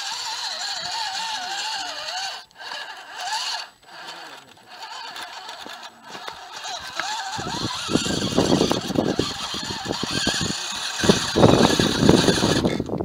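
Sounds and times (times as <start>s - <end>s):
tyres crunching over gravel: 0.0s - 12.9s
electric motor whining: 0.0s - 13.0s.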